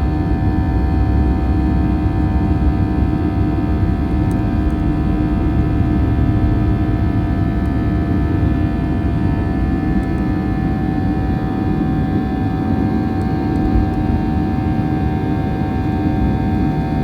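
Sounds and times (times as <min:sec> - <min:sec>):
airflow rumble in aircraft cabin: 0:00.0 - 0:17.0.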